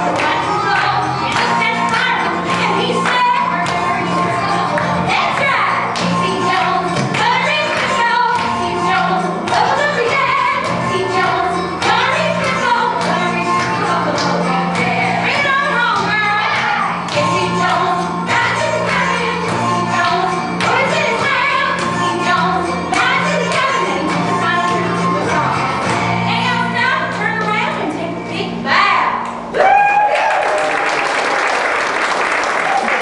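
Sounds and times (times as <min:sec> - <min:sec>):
woman singing into microphone: 0:00.0 - 0:27.7
musical accompaniment: 0:00.0 - 0:29.5.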